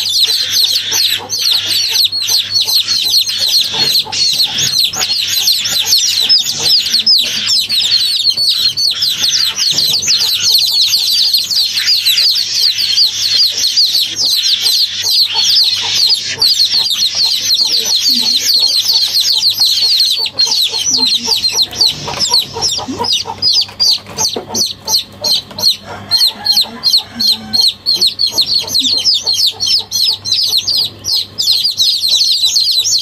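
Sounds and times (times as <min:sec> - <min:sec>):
chorus of bird chirps: 0:00.0 - 0:33.0.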